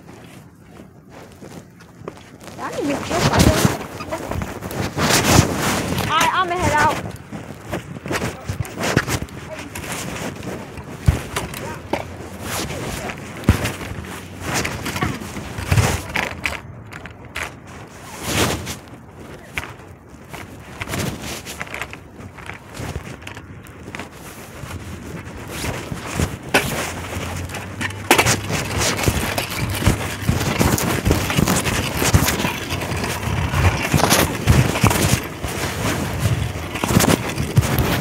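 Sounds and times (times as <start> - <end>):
clothing rubbing on microphone: 0.0 - 38.0
knocks and scuffs: 0.0 - 38.0.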